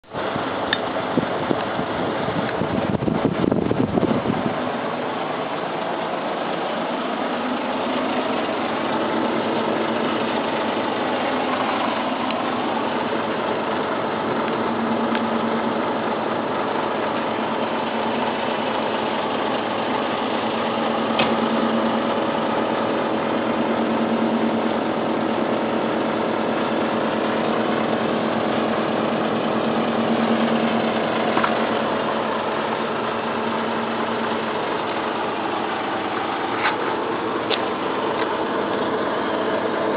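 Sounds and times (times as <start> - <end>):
heat pump humming: 0.1 - 39.9.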